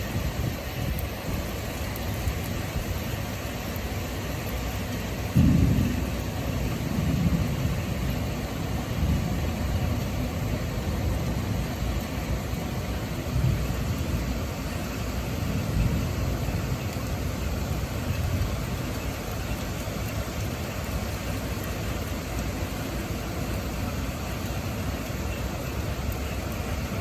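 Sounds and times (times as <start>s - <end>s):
rain and wind hiss: 0.0s - 27.0s
thunder crack and rumble: 4.0s - 27.0s.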